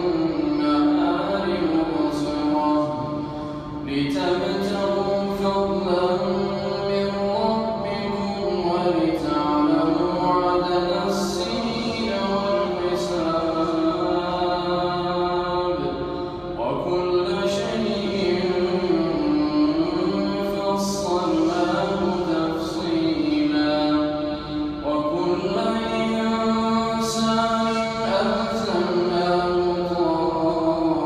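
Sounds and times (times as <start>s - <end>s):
man reciting melodically: 0.0s - 31.0s.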